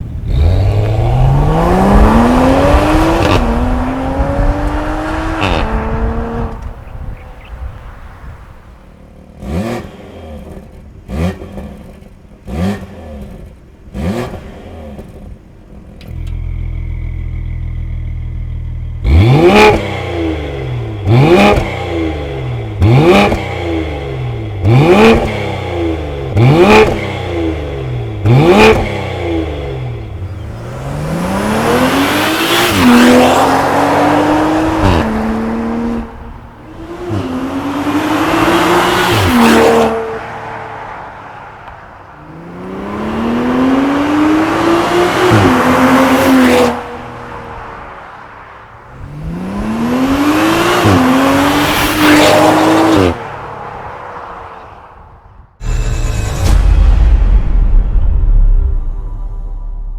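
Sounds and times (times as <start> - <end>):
car engine throttle blips: 0.0 - 56.0
car engine accelerating: 0.0 - 56.8.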